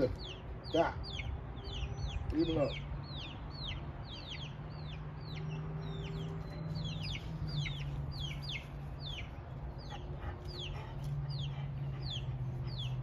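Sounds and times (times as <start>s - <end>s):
baby chicks peeping: 0.0s - 13.0s.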